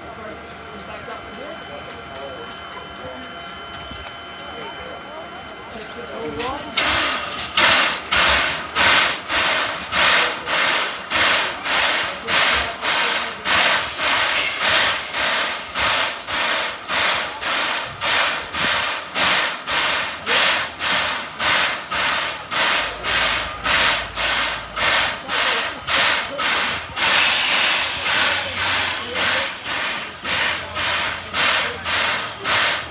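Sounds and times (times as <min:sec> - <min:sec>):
steam locomotive chuffing: 0:00.0 - 0:32.9.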